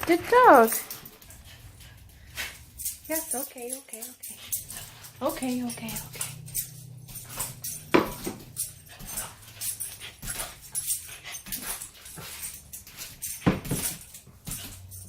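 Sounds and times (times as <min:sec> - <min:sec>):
dog paws tapping: 0:00.0 - 0:15.0.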